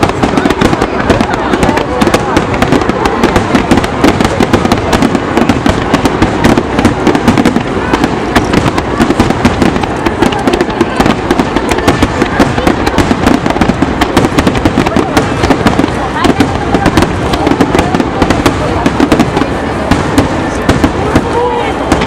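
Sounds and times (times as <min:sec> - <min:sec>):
fireworks bursts and crackles: 0:00.0 - 0:22.0.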